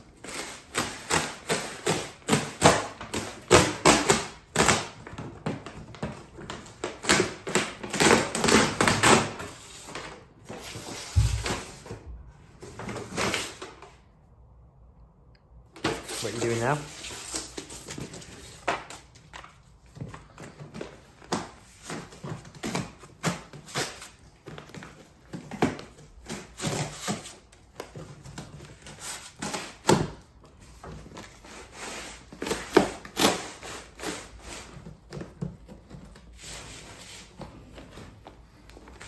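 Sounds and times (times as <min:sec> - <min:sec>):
dog rummaging in cardboard box: 0:00.1 - 0:13.9, 0:15.8 - 0:39.0.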